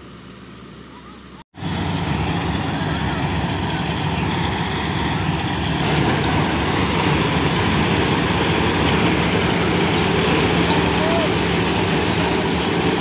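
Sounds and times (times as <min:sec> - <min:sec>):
combine harvester running: 0:00.0 - 0:13.0.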